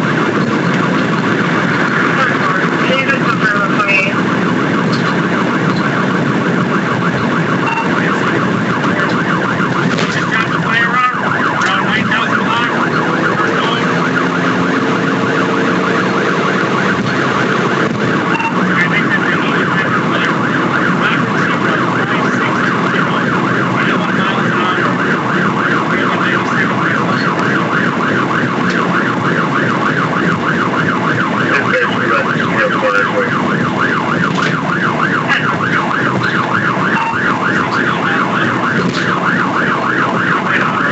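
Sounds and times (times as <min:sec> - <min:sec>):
police siren warbling: 0:00.0 - 0:40.9
vehicle engine and road noise: 0:00.0 - 0:40.9.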